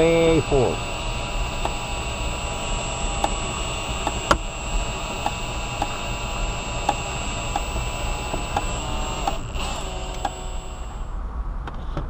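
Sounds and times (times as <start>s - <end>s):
steady hiss of cutting wire: 0.0s - 11.1s
wire winder light clicks: 0.8s - 11.0s.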